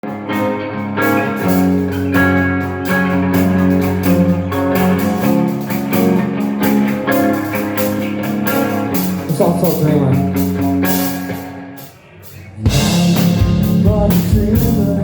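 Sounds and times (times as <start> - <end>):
steady bass: 0.0 - 11.8, 12.6 - 15.0
strummed guitar chords: 0.0 - 15.0
regular beat: 0.3 - 15.0.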